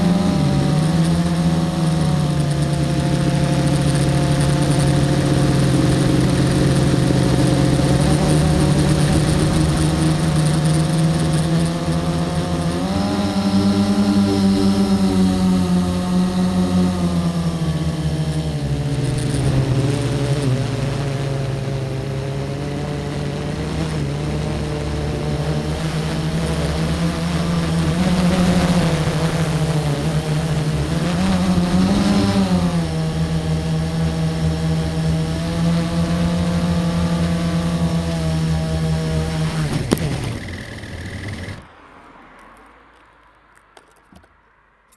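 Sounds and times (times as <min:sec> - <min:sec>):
car engine running: 0:00.0 - 0:41.7.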